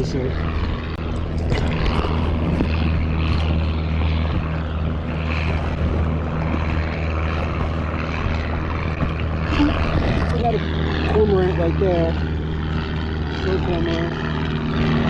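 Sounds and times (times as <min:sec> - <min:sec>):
low engine drone: 0:00.0 - 0:15.0
water washing and splashing: 0:00.4 - 0:15.0.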